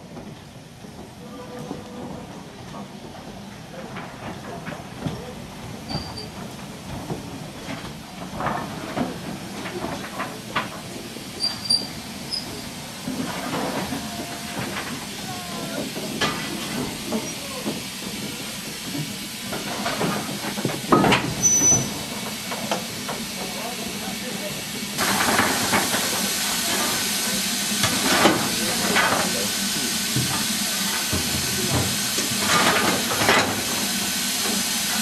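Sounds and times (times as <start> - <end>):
steam locomotive moving slowly: 0.0 - 35.0
steam hissing: 4.8 - 35.0.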